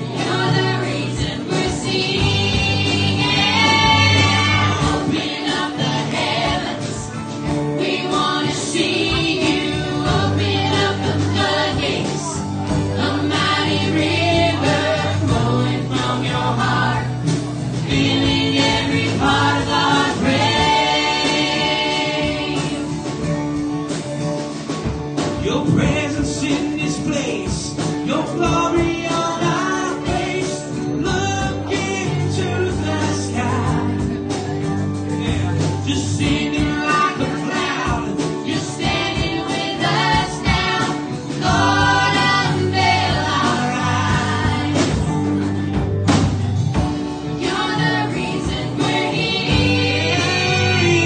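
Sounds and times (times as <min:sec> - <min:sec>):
people singing: 0:00.0 - 0:23.4, 0:25.2 - 0:45.9, 0:46.7 - 0:51.0
guitar: 0:00.0 - 0:51.0
worship band playing live: 0:00.0 - 0:51.0.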